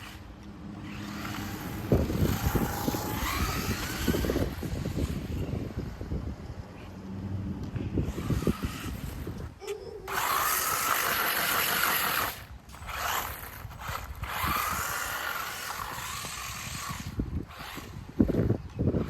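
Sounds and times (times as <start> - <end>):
toy car motor whine: 0.0 - 5.7, 8.0 - 19.0.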